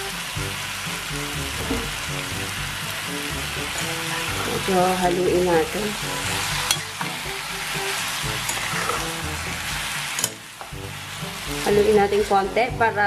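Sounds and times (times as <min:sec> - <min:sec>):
background music: 0:00.0 - 0:13.0
squid sizzling in hot oil: 0:00.0 - 0:13.0.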